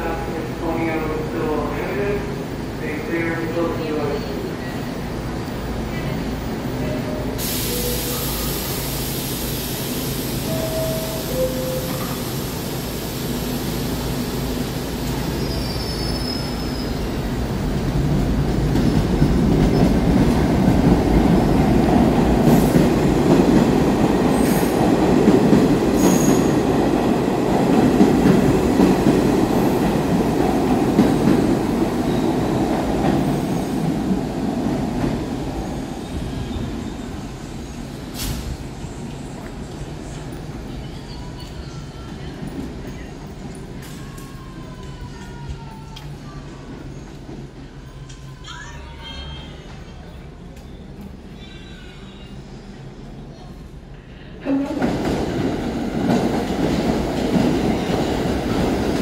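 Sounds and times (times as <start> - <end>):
subway train rumbling on rails: 0.0 - 59.0.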